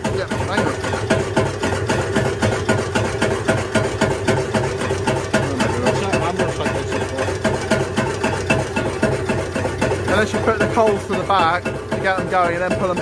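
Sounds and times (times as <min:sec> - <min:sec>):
engine even knocking: 0:00.0 - 0:13.0.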